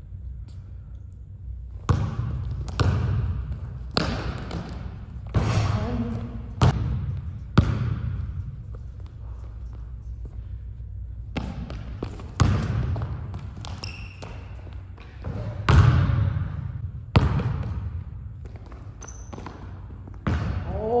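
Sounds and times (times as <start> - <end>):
basketball bouncing on wooden floor: 1.8 - 9.1, 11.4 - 21.0.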